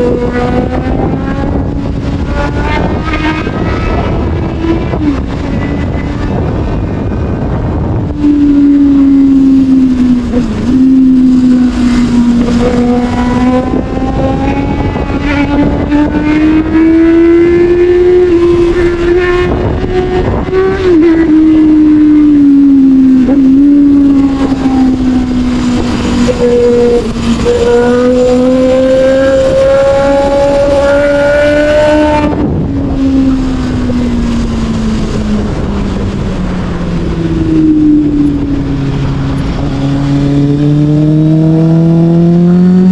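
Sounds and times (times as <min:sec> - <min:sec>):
motorcycle engine at high revs: 0:00.0 - 0:42.9
wind rushing: 0:00.0 - 0:42.9.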